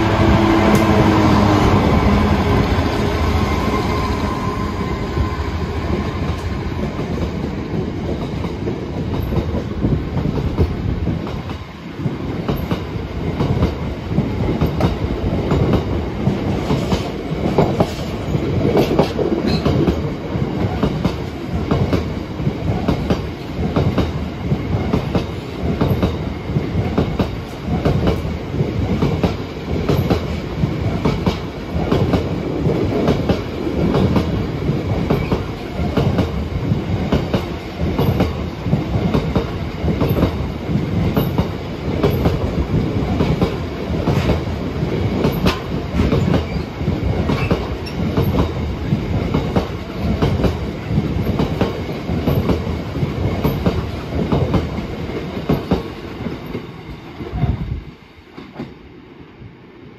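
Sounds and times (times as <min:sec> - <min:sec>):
train wheels clacking on rail joints: 0:05.9 - 0:56.7.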